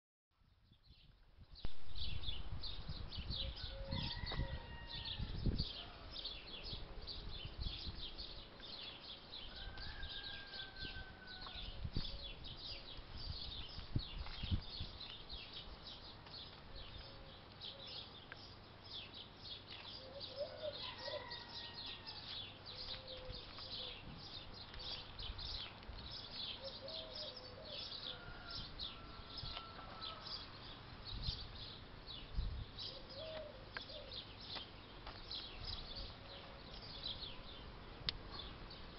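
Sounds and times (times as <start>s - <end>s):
small birds chirping: 0.6s - 38.9s.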